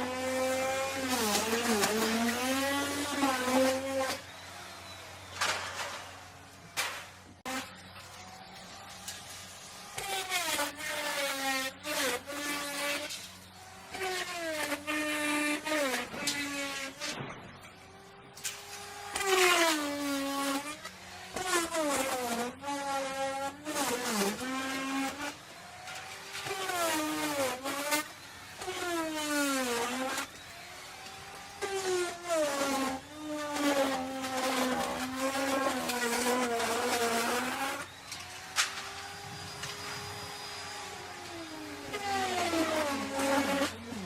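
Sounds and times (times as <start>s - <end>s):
router bit cutting wood: 0.0s - 44.0s
wood router motor whine: 0.0s - 44.0s.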